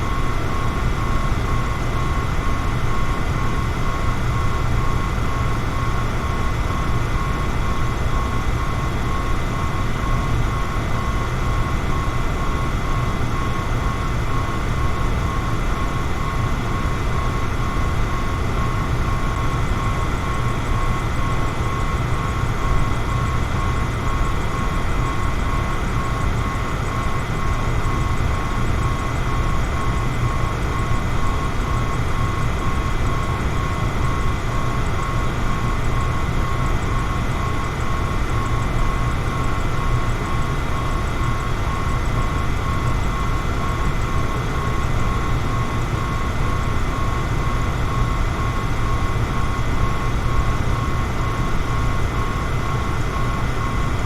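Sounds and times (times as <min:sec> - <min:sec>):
fan motor whine: 0:00.0 - 0:54.0.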